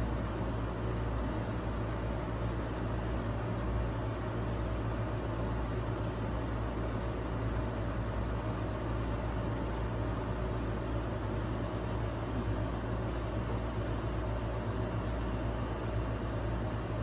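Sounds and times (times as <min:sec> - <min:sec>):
constant hiss: 0:00.0 - 0:17.0
steady low hum: 0:00.0 - 0:17.0.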